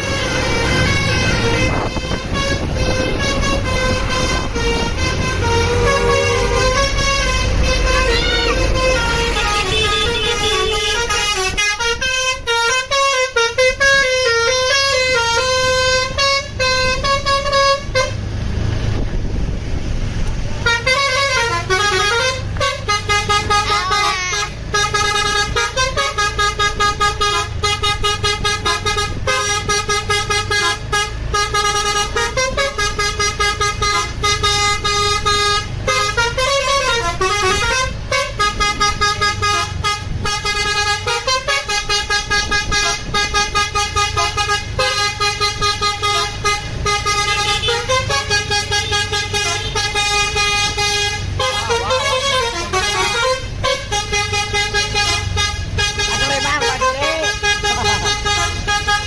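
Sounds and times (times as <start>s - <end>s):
musical air horn tunes: 0.2s - 18.2s, 20.6s - 59.0s.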